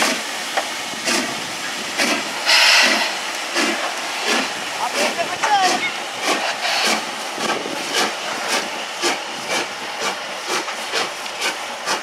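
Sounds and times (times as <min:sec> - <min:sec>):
steam hissing: 0:00.0 - 0:12.0
steam locomotive exhaust chuffing: 0:00.0 - 0:12.0.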